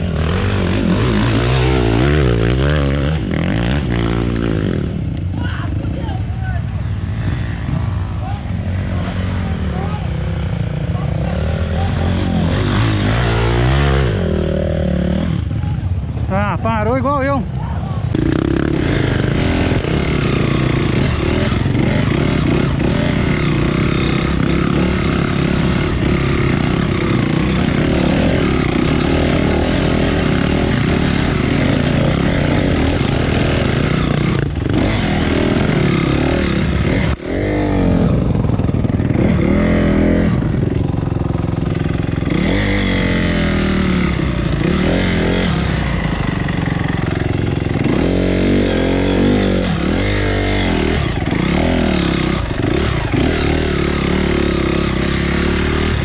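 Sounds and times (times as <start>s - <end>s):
dirt bike engine revving: 0.0s - 17.3s, 18.1s - 56.0s.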